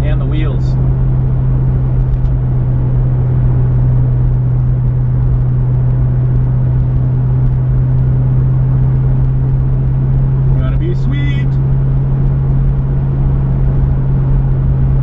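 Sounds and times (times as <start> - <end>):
car engine droning: 0.0 - 15.0
tyre and road rumble: 0.0 - 15.0.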